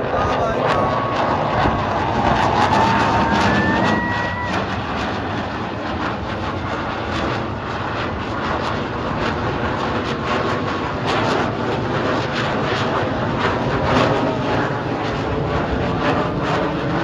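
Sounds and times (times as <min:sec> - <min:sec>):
jet aircraft roaring overhead: 0:00.0 - 0:17.0.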